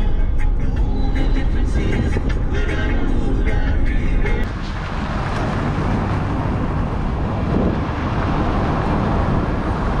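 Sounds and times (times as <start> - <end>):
car engine rumble: 0.0 - 10.0
tyre noise on road: 0.4 - 10.0.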